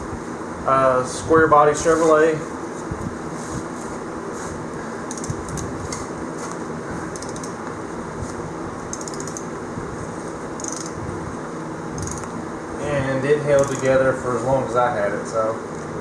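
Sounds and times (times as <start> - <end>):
fan-like background hum: 0.0 - 16.0.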